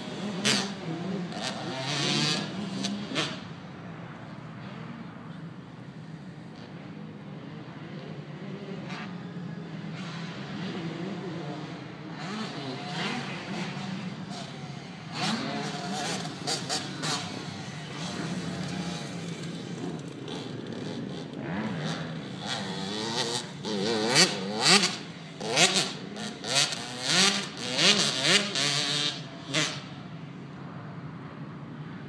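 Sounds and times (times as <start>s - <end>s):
dirt bike engine revving: 0.0s - 3.6s, 7.8s - 30.0s.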